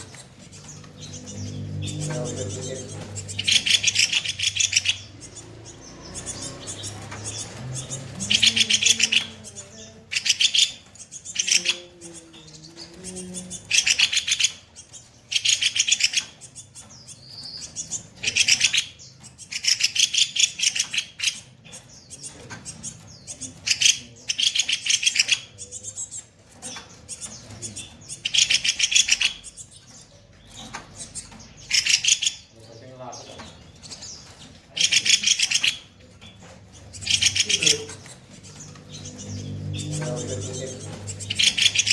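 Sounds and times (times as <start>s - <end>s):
bird singing harsh chattering phrases: 0.0s - 41.9s.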